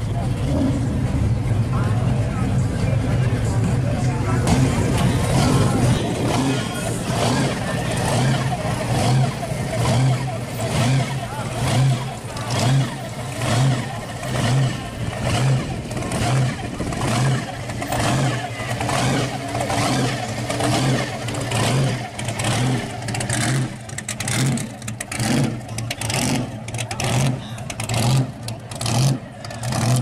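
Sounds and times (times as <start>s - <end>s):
car engine loping at low speed: 0.0s - 30.0s.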